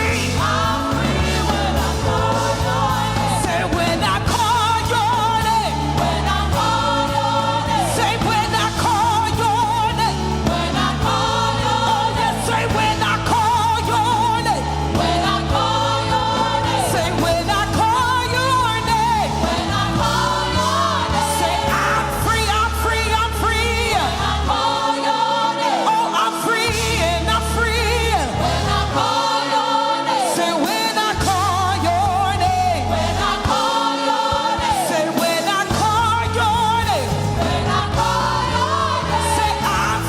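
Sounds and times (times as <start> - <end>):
band with bass line: 0.0 - 40.0
group singing with vibrato: 0.0 - 40.0.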